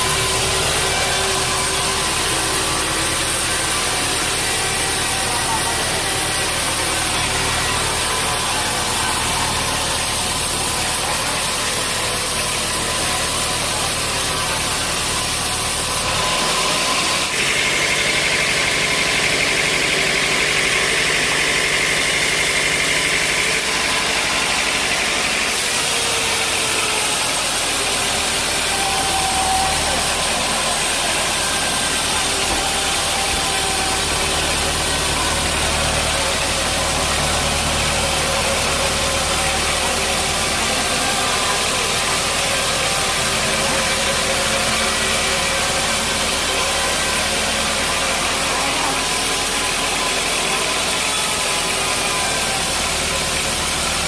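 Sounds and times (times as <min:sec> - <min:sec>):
high machine whine: 0:00.0 - 0:54.0
sawmill machinery droning: 0:00.0 - 0:54.0.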